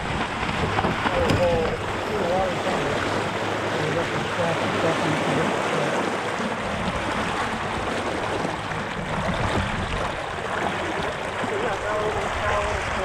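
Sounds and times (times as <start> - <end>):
water rushing along boat hull: 0.0 - 13.0.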